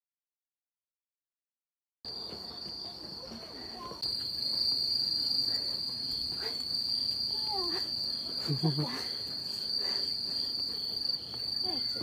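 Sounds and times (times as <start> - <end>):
crickets trilling: 2.1 - 12.0.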